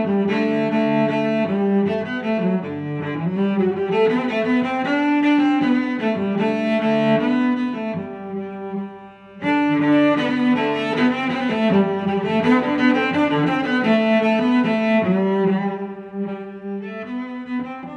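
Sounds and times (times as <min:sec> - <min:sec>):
string-like instrumental music: 0:00.0 - 0:17.9.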